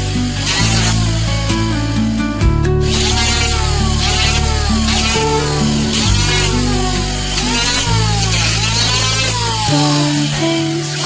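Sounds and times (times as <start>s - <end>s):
background music with bass and melody: 0.0s - 11.0s.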